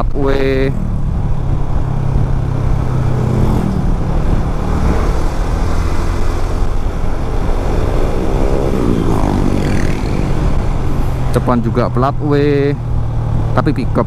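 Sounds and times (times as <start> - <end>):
motorcycle engine running: 0.0 - 14.0
road and traffic noise: 0.0 - 14.0.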